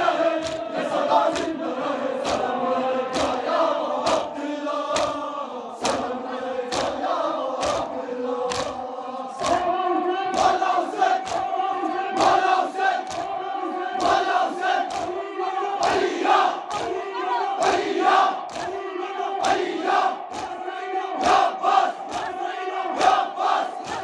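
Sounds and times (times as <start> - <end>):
men chanting in unison: 0.0 - 24.0
rhythmic chest-beating: 0.0 - 24.0.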